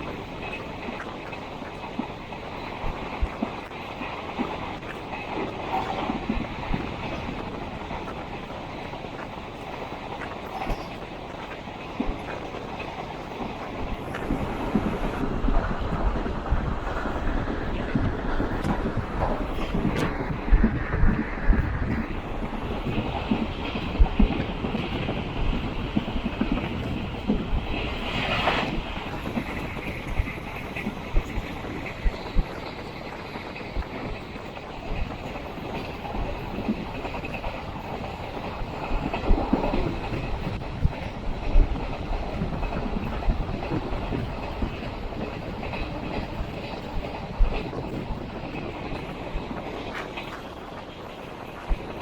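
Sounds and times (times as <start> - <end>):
train wheels clattering over rails: 0.0 - 52.0.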